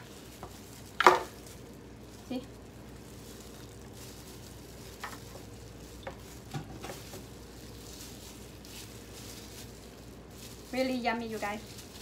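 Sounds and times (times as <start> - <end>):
faint clicks and rustles: 0.0 - 12.0
low room hum: 0.0 - 12.0.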